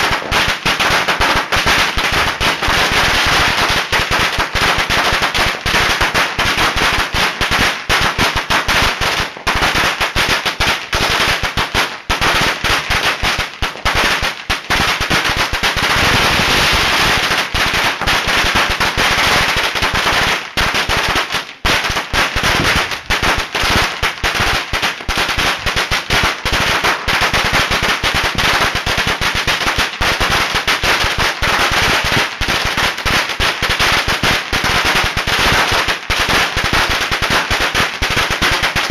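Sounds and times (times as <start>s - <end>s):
firecrackers banging: 0.0s - 38.9s.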